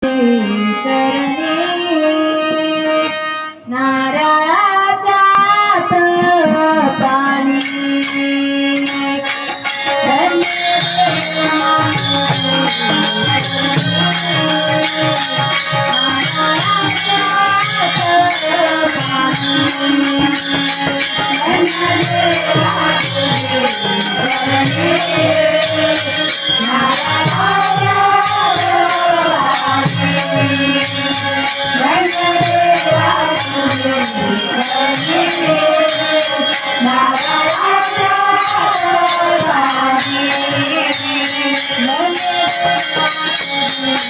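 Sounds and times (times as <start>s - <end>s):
devotional song melody: 0.0s - 44.0s
small hand cymbals: 7.5s - 44.0s.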